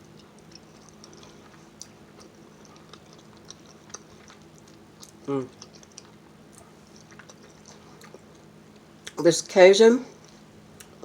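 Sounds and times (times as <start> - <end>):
chewing food: 0.0 - 9.2
low steady hum: 0.0 - 11.0.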